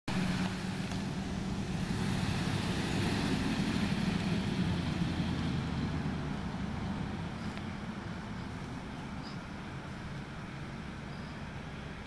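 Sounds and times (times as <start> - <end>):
truck engine rumble: 0.1 - 12.0
tyre and road noise: 0.1 - 12.0.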